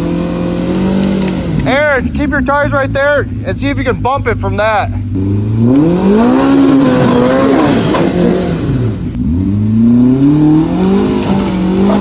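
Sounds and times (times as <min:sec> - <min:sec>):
utility vehicle engine revving: 0:00.0 - 0:12.0.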